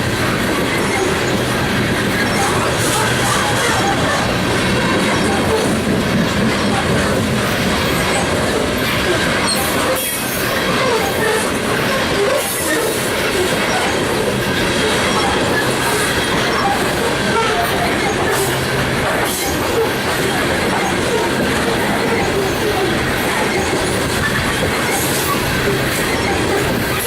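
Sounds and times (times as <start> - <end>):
freight train rolling past: 0.0 - 27.0
steel wheels squealing: 0.0 - 27.0.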